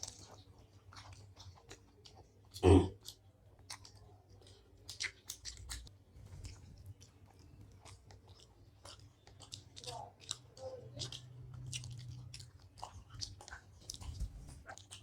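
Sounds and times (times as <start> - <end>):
wet chewing clicks and smacks: 0.0 - 15.0.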